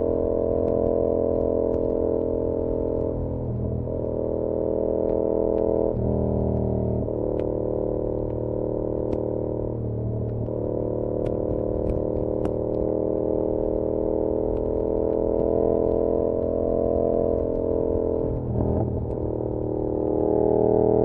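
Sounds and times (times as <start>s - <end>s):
muffled motorcycle engine: 0.0s - 21.0s.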